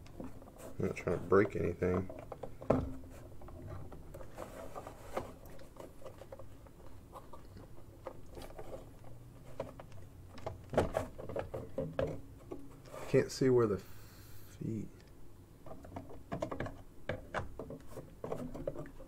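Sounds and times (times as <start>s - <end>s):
plastic parts clicking and rubbing: 0.0s - 13.3s, 15.0s - 19.0s.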